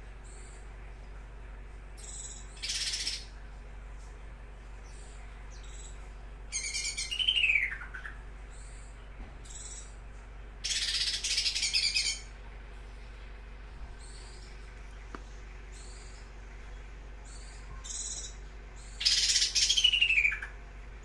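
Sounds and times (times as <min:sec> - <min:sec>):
songbird chattering song: 0:00.0 - 0:20.8.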